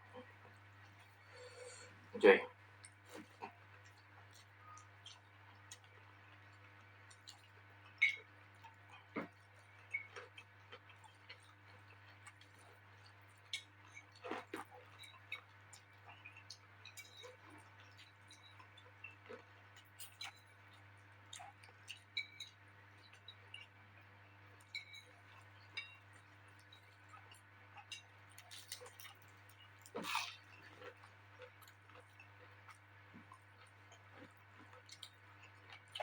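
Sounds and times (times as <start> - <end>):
wet chewing and lip smacks: 2.8 - 23.8, 24.7 - 36.0.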